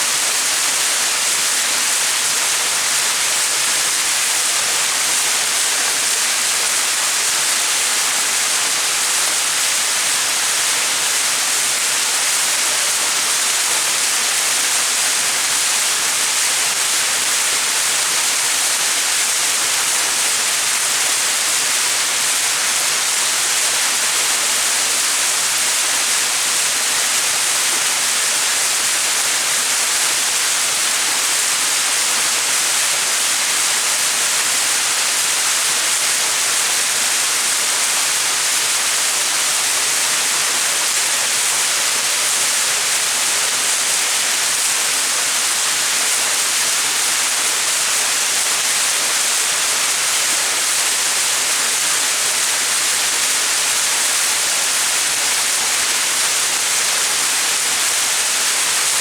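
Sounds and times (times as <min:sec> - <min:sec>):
small waterfall splashing: 0:00.0 - 0:59.0.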